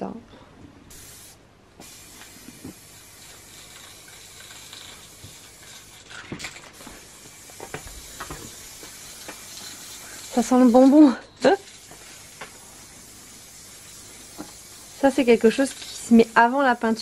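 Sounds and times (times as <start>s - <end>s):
aerosol spray can hissing: 0.9s - 17.0s.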